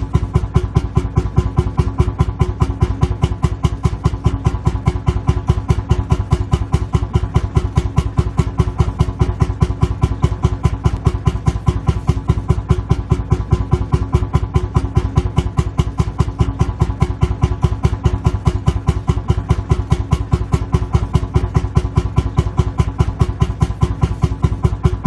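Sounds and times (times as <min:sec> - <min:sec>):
tractor engine thumping idle: 0:00.0 - 0:25.0.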